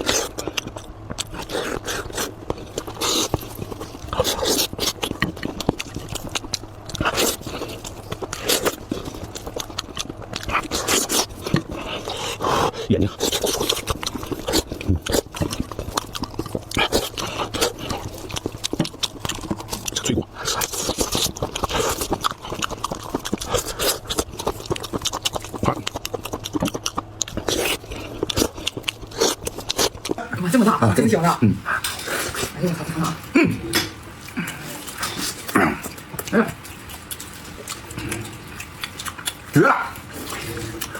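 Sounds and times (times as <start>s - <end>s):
biting and chewing meat: 0.0s - 40.9s.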